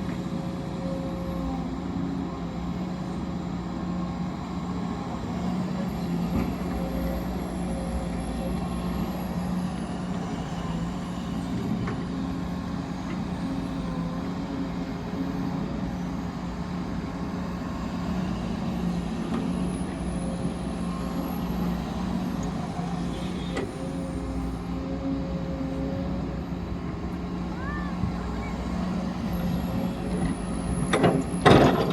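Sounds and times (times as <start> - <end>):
heavy machinery engine running: 0.0 - 31.9.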